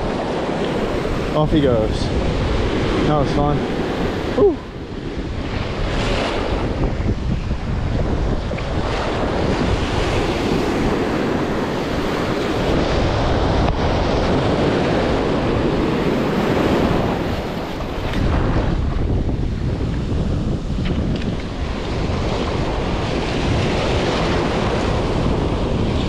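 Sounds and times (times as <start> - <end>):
surf breaking in shallows: 0.0 - 26.0
wind buffeting microphone: 0.0 - 26.0.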